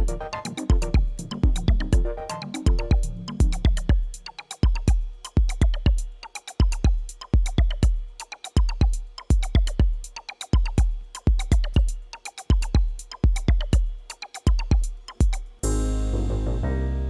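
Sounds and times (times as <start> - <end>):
deep kick drum beat: 0.0 - 16.8
electronic music: 0.0 - 17.0.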